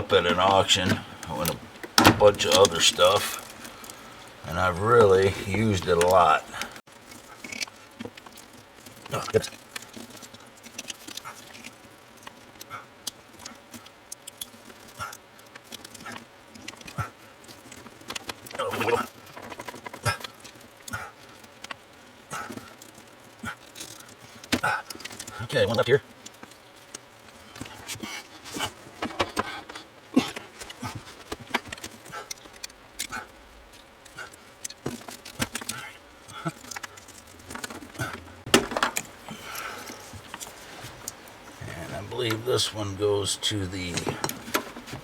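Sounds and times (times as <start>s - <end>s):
light clicks and ticks: 0.0s - 45.0s.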